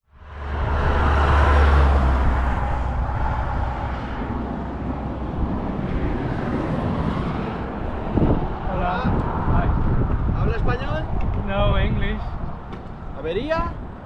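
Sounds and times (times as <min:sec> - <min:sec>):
road and traffic noise: 0:00.0 - 0:14.0
vehicle engine rumble: 0:00.0 - 0:14.0.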